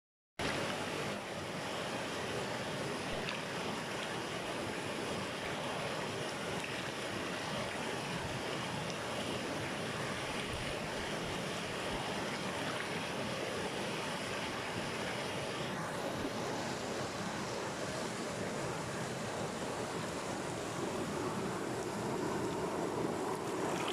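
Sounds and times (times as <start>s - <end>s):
river rushing over stones: 0.4s - 23.9s.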